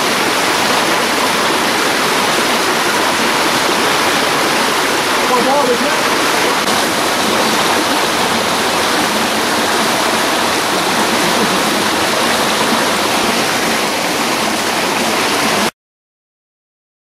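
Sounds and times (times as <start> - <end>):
stream rushing over boulders: 0.0 - 15.7.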